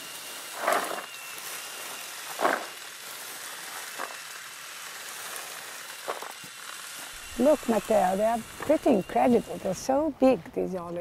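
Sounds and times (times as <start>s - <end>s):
olives and leaves rustling: 0.0s - 9.8s
steady hiss: 0.0s - 10.0s.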